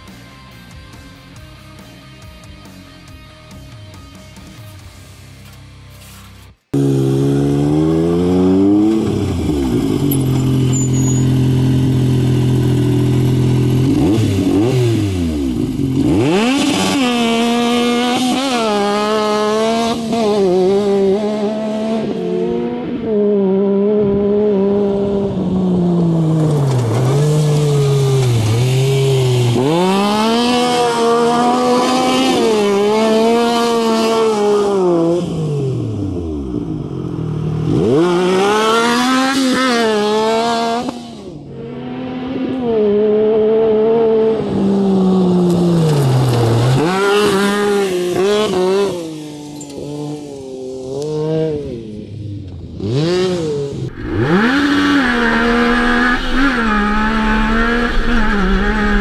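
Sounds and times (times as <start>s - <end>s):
engine revving: 6.7s - 59.0s.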